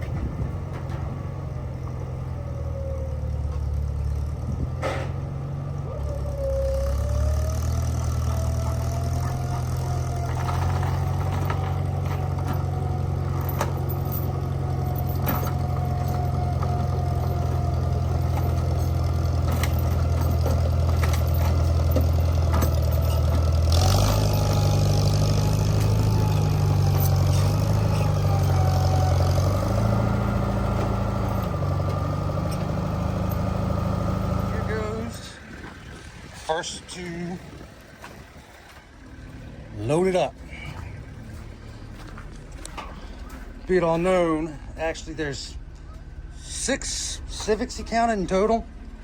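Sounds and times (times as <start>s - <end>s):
lifting equipment engine running: 0.0s - 49.0s.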